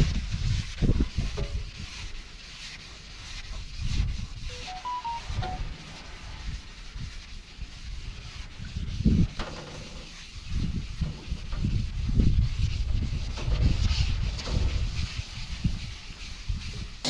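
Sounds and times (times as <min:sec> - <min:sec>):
sandpaper rubbing on painted metal: 0:00.0 - 0:17.0.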